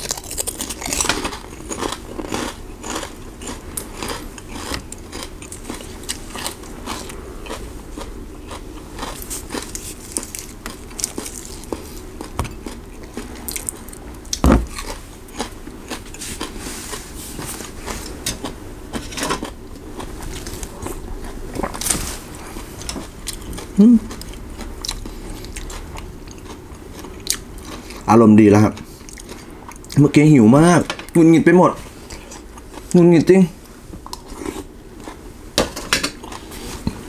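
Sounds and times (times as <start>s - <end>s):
chewing and crunching greens: 0.0s - 37.0s.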